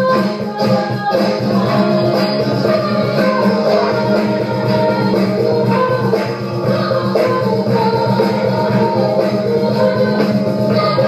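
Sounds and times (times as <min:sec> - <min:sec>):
live band playing pop song: 0:00.0 - 0:11.0
person singing: 0:00.0 - 0:11.0.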